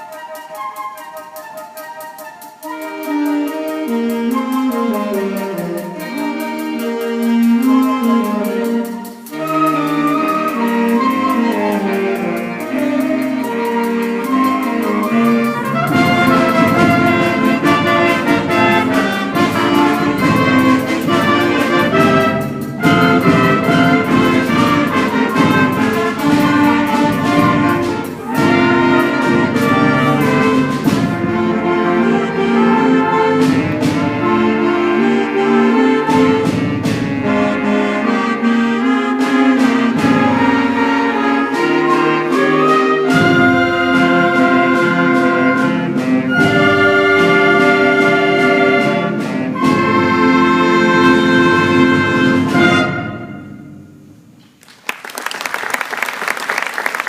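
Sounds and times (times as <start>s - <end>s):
wind band playing: 0.0s - 54.4s.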